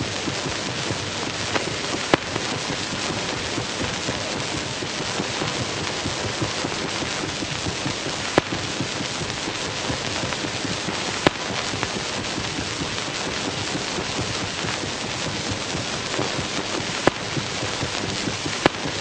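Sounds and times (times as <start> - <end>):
dense crackling hiss: 0.0 - 19.0.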